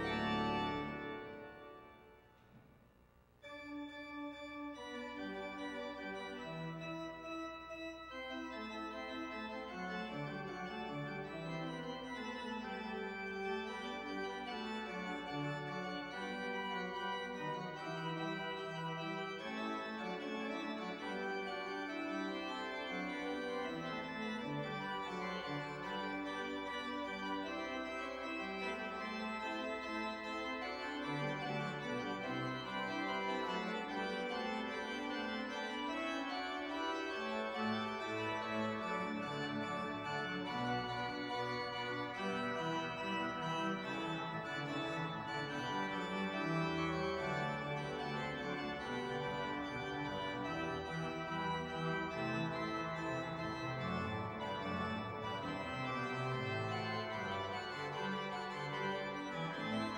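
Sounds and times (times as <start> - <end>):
pipe organ playing chords: 0.0 - 2.6, 3.4 - 59.9.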